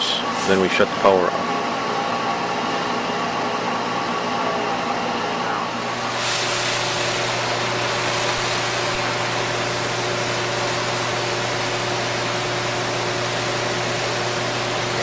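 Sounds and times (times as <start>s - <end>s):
induction heater hiss: 0.0s - 15.0s.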